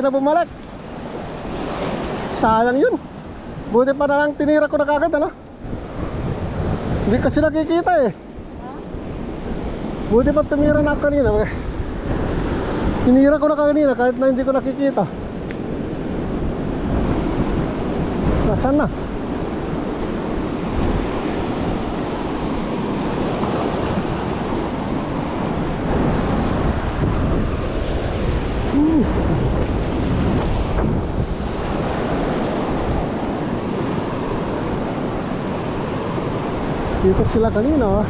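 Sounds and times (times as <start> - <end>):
ocean surf washing in: 0.0 - 38.0
wind buffeting microphone: 0.5 - 14.1, 15.0 - 38.0.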